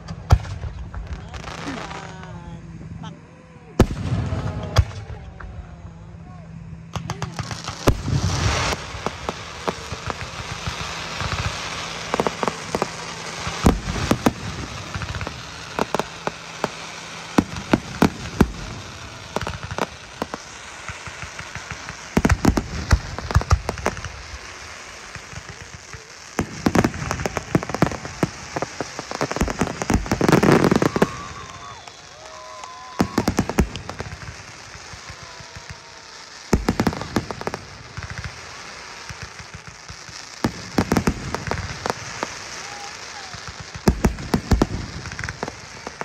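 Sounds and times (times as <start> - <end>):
crackling hiss of fireworks: 0.0 - 46.0
firework shells bursting: 6.9 - 46.0.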